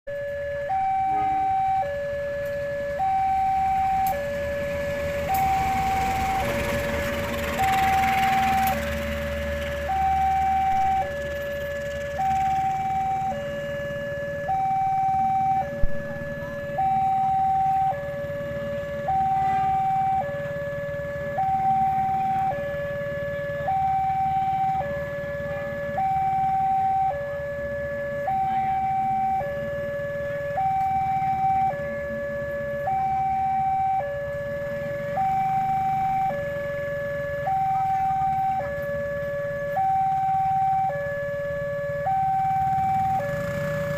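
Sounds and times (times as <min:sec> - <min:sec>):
two-tone electronic alarm: 0:00.1 - 0:43.9.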